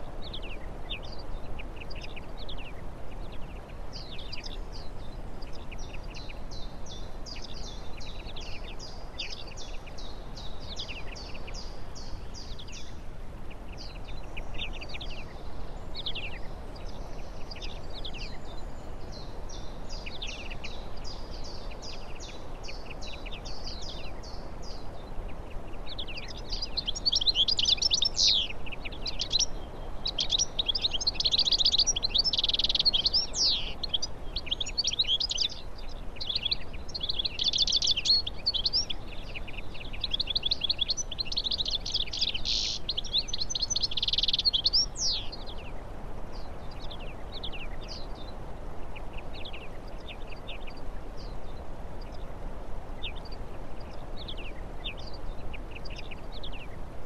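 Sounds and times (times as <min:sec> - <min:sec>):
low background hiss: 0:00.0 - 0:57.0
songbirds chirping and twittering: 0:00.0 - 0:57.0.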